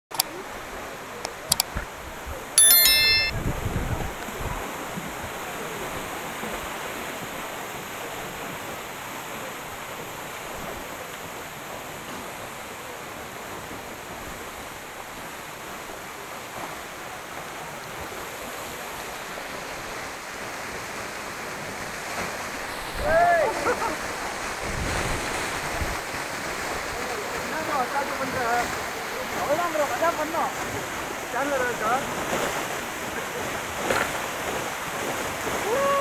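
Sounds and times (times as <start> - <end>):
stream rushing: 5.4 - 36.0.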